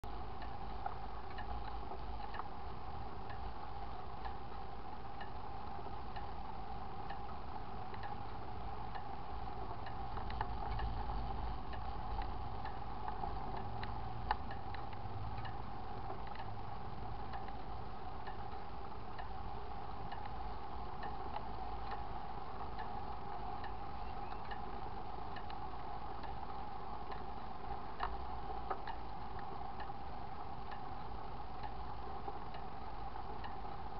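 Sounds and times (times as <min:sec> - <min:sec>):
bicycle ticking: 0:00.0 - 0:33.9
steady hum: 0:00.0 - 0:33.9
wind and road rumble: 0:00.1 - 0:30.2.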